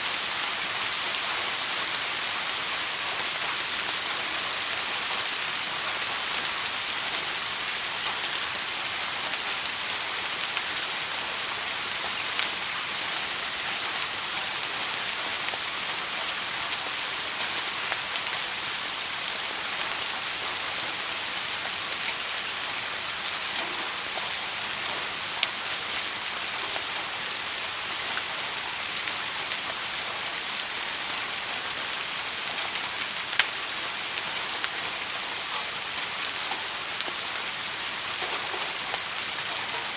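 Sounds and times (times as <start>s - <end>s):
soft rain hissing: 0.0s - 39.9s
raindrops ticking on surface: 0.1s - 39.9s.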